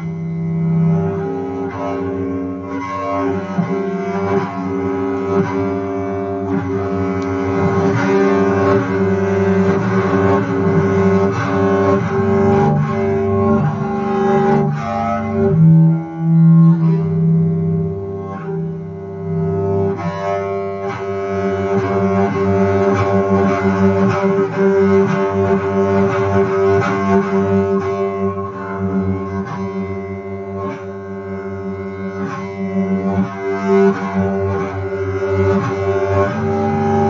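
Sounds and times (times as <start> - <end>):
bowed double bass: 0.0 - 37.0.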